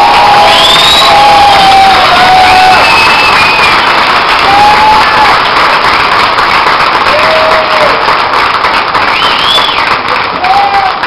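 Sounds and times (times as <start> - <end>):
crowd cheering: 0.0 - 11.0
crowd clapping: 0.0 - 11.0.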